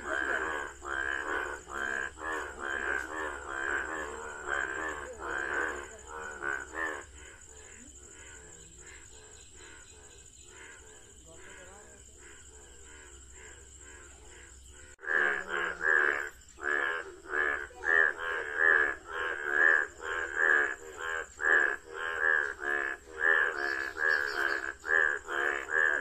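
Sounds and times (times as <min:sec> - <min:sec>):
frogs croaking in chorus: 0:00.0 - 0:26.0.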